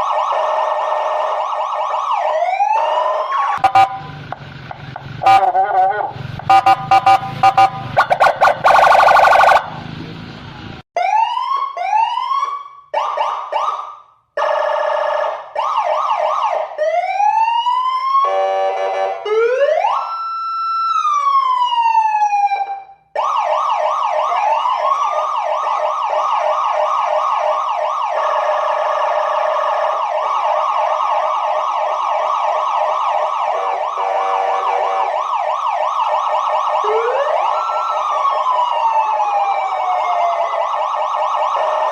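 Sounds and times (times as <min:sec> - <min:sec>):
electronic siren: 0:00.0 - 0:04.4, 0:05.1 - 0:09.8, 0:11.0 - 0:41.9.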